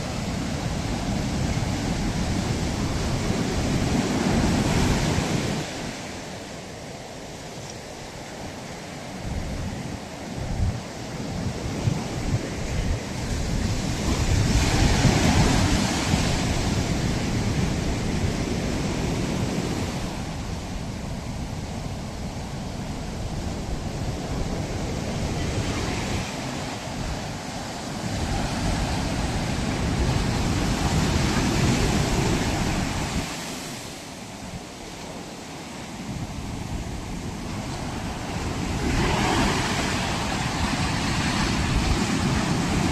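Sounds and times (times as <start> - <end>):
ocean waves breaking: 0.0 - 42.9
wind on microphone: 0.0 - 42.9.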